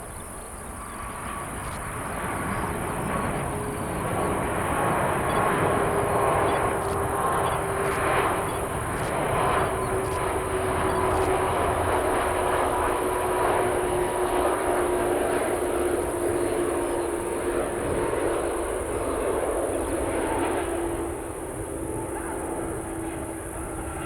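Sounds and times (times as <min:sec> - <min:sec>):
airliner engines rumbling and whining: 0:00.0 - 0:24.0.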